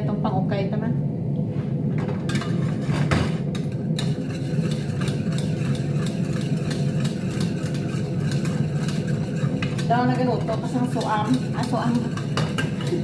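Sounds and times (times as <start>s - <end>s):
range hood fan humming: 0.0s - 13.0s
metal spoon scraping a pot: 2.3s - 13.0s.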